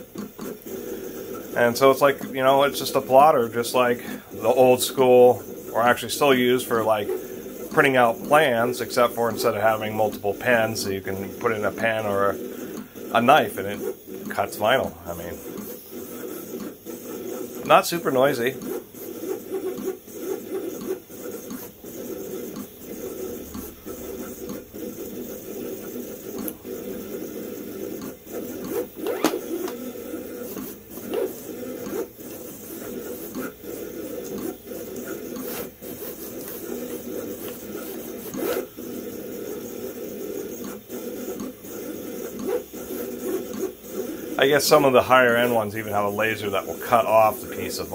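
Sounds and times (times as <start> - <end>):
plotter motors whirring: 0.0 - 47.9.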